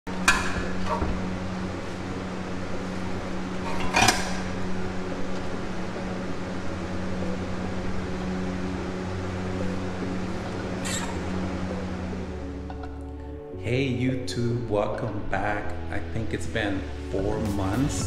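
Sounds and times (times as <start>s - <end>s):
electric machine hum: 0.0s - 17.8s.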